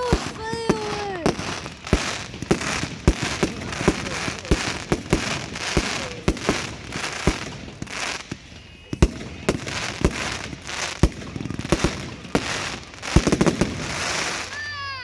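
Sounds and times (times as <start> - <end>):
fireworks banging: 0.0 - 15.0
fireworks crackling hiss: 0.0 - 15.0.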